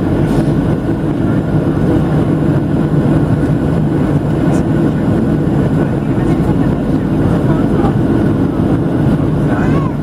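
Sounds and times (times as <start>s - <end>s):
airflow noise: 0.0s - 10.0s
jet engine noise: 0.0s - 10.0s.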